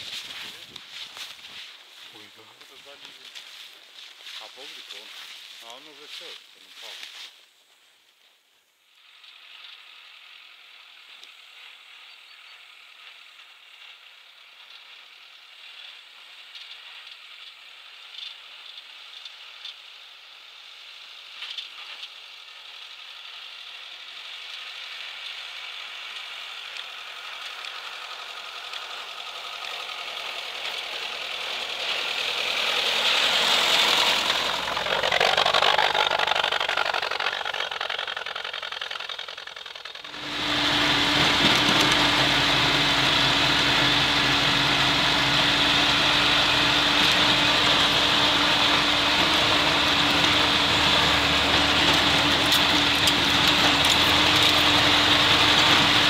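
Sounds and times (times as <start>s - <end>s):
off-road vehicle engine under load: 0.0s - 7.3s, 8.8s - 56.0s.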